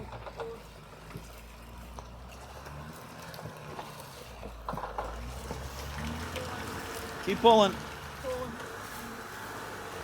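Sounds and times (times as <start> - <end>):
vehicle engines running low: 0.0 - 10.0.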